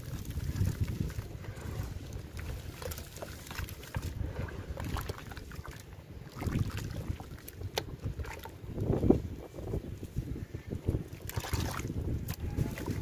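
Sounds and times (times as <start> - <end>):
hands sloshing in muddy water: 0.1 - 9.1, 11.1 - 13.0.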